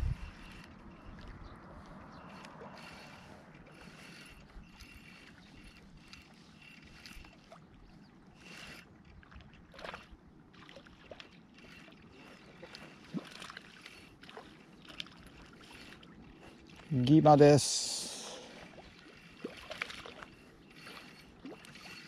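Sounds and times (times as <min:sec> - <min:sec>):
fishing reel gears whirring: 0:00.0 - 0:22.0
small water splashes: 0:00.6 - 0:22.0.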